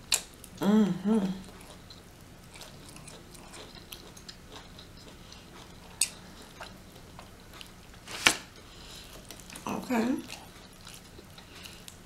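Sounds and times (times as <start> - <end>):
person chewing and smacking: 0.0 - 0.6, 1.2 - 12.0.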